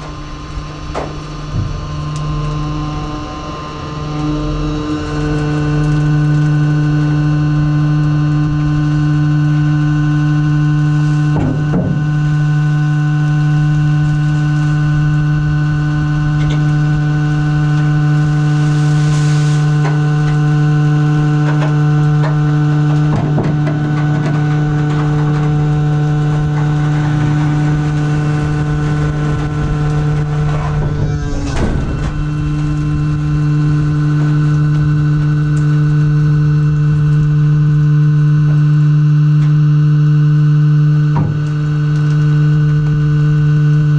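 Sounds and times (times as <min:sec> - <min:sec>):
compactor motor humming: 0:00.0 - 0:43.9.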